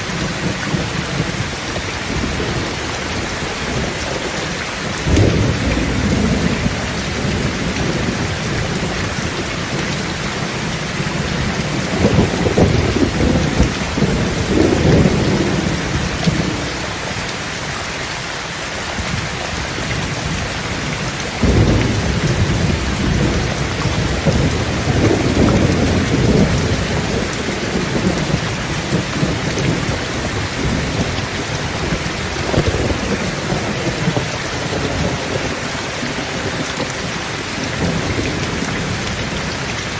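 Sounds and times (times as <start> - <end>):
rolling thunder: 0.0 - 17.2, 19.0 - 39.9
steady rain: 0.0 - 39.9.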